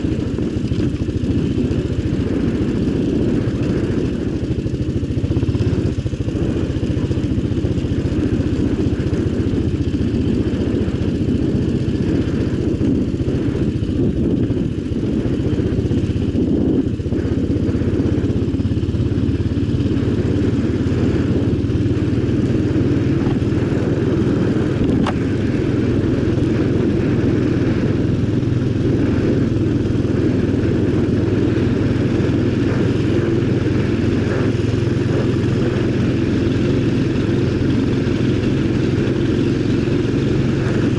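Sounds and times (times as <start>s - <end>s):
quad bike engine running: 0.0s - 40.9s.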